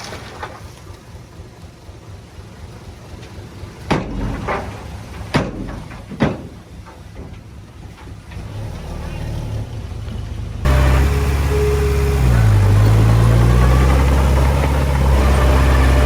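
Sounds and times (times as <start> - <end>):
low machinery rumble: 0.0 - 16.0.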